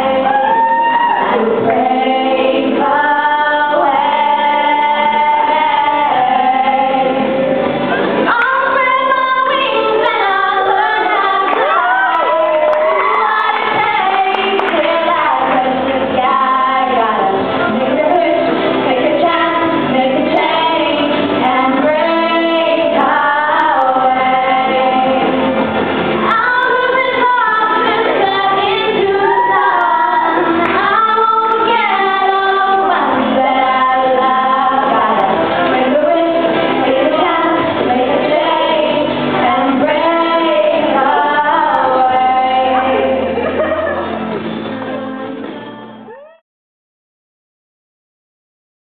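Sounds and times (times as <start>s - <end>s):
girls singing: 0.0s - 46.3s
musical accompaniment: 0.0s - 46.4s.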